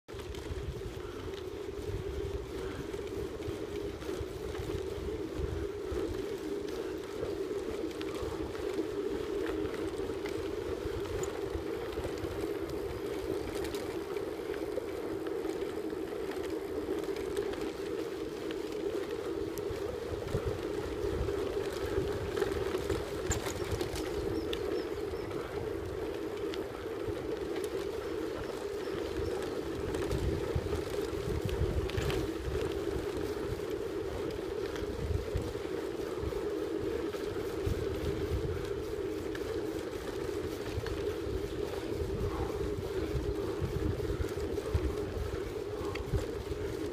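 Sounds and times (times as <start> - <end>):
tyres rolling on dirt track: 0.1 - 46.9
wind rumbling on microphone: 0.1 - 46.9.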